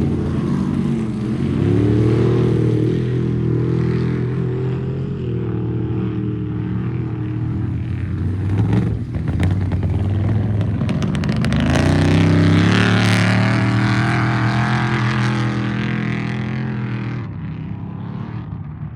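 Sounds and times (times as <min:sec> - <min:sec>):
truck engine running hard: 0:00.0 - 0:18.9.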